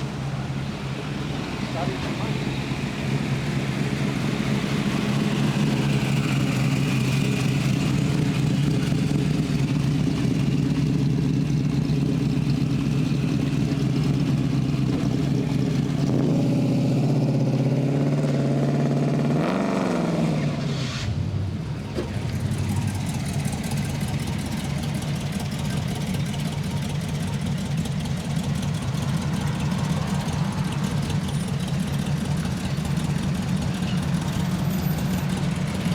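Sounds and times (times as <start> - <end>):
vehicle engine running: 0.0 - 19.4, 21.5 - 35.9.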